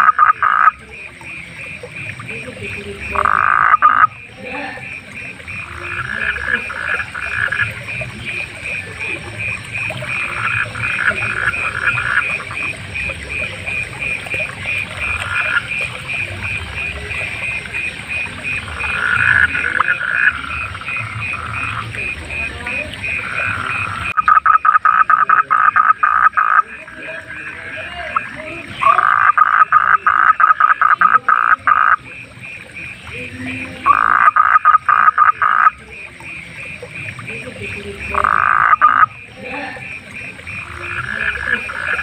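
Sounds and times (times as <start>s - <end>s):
close frog rapid pulses: 0.0s - 42.0s
fast pulsed frog call: 0.0s - 42.0s
frogs croaking in bursts: 0.0s - 42.0s.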